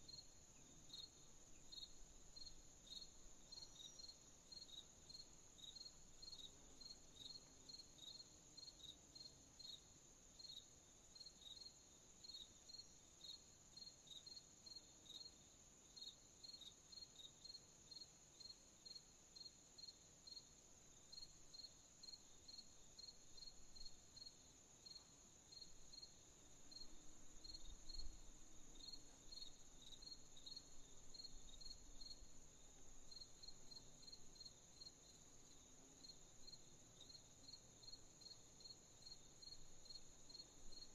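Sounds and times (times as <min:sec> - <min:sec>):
continuous insect trill: 0:00.0 - 0:40.9
crickets chirping: 0:00.0 - 0:40.9.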